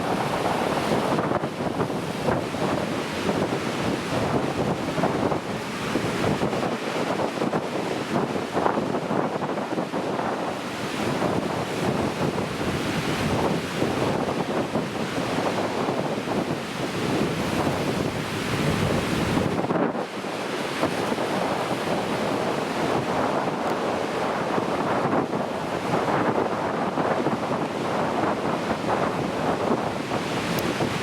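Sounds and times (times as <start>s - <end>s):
large waves crashing: 0.0s - 31.0s
wind buffeting microphone: 0.0s - 31.0s.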